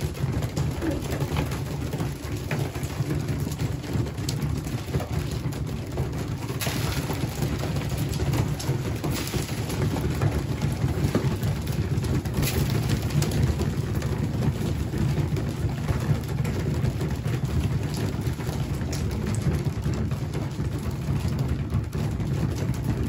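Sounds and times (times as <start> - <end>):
pigeons pecking on concrete: 0.0 - 23.0.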